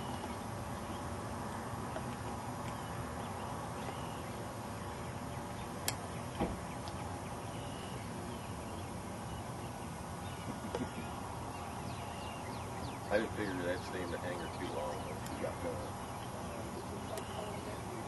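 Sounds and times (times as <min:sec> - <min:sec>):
faint bird chirps: 0:02.7 - 0:18.0.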